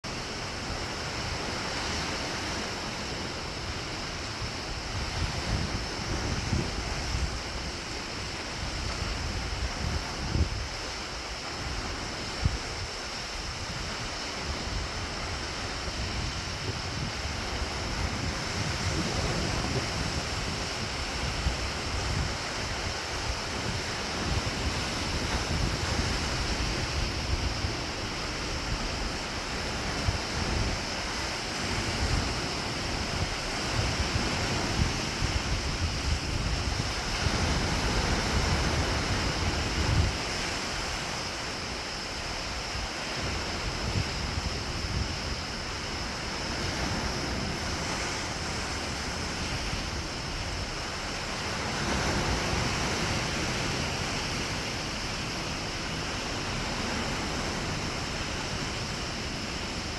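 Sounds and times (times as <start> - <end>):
ocean surf breaking: 0.1 - 59.9
wind buffeting microphone: 0.1 - 59.9.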